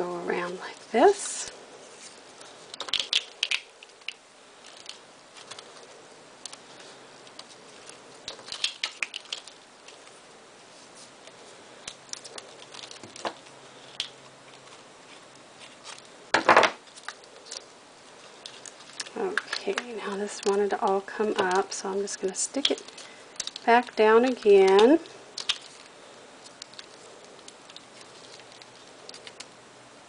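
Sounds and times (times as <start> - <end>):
tape and wire crinkles: 0.3 - 29.6.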